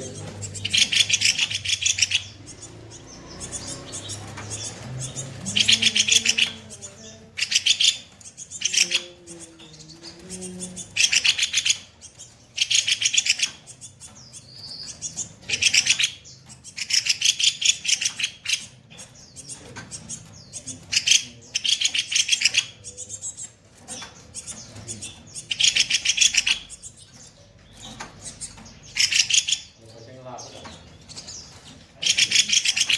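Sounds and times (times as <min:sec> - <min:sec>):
songbird harsh rapid bursts: 0:00.0 - 0:09.8, 0:10.4 - 0:32.9.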